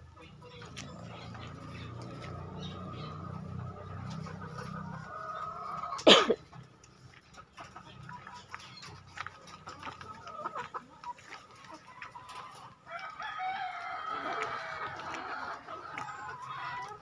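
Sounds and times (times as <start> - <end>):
hens clucking and calling: 0.0 - 17.0.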